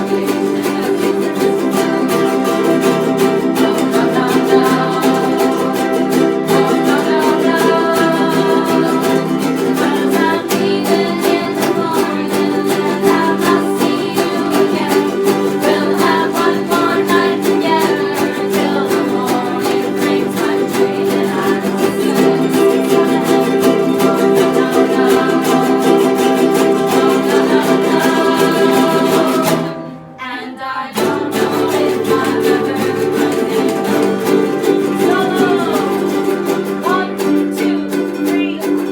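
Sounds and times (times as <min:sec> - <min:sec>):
ukuleles strumming: 0:00.0 - 0:38.9.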